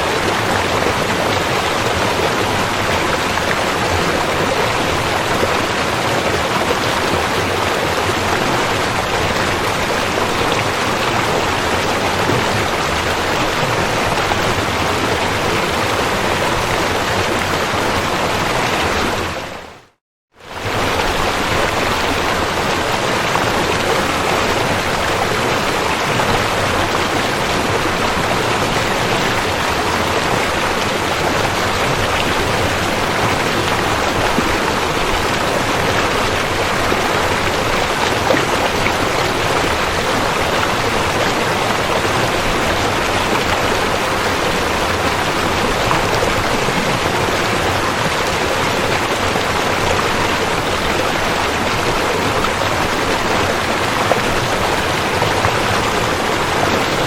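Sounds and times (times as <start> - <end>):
river water rushing over rocks: 0.0 - 19.7, 20.5 - 57.0.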